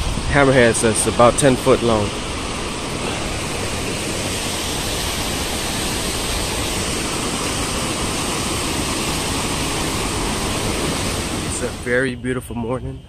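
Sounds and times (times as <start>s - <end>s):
sea water washing: 0.0s - 12.0s.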